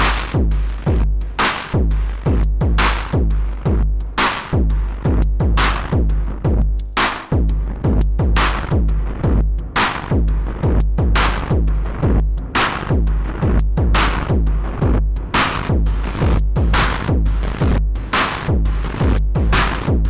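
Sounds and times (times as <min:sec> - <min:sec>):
deep kick drums: 0:00.0 - 0:20.0.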